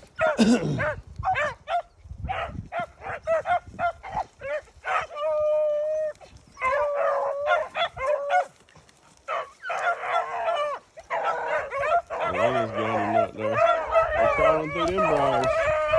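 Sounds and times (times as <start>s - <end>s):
beagles baying and barking: 0.0s - 15.9s
wind rumble: 0.7s - 8.4s, 10.6s - 15.9s.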